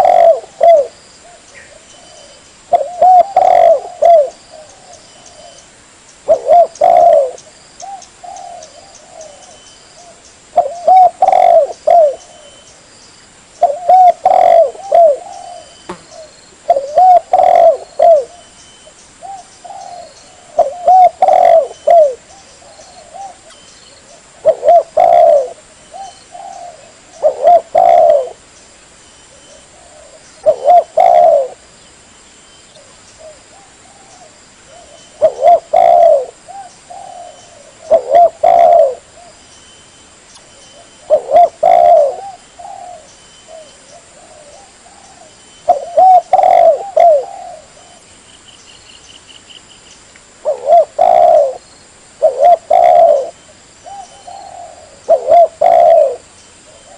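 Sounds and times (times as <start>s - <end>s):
dove cooing: 0.0s - 5.6s, 6.2s - 12.7s, 13.6s - 28.4s, 29.3s - 31.7s, 32.8s - 39.4s, 40.7s - 48.1s, 50.4s - 51.6s, 52.2s - 56.9s.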